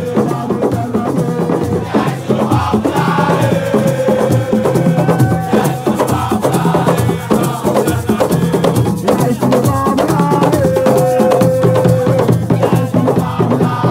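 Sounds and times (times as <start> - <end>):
group singing a chant: 0.0 - 13.9
hand drums: 0.0 - 13.9.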